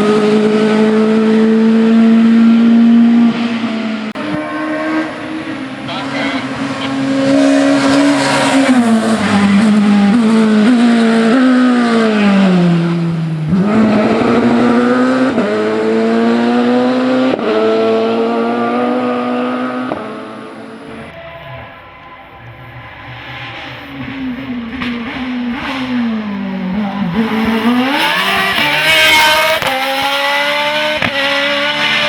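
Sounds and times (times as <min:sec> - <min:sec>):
race car engine revving: 0:00.0 - 0:32.0.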